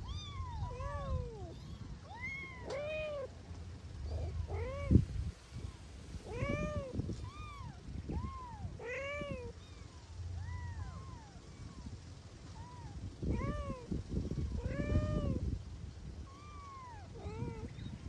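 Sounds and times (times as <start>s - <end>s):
kittens meowing: 0.0s - 3.4s, 4.0s - 15.6s, 16.2s - 18.0s.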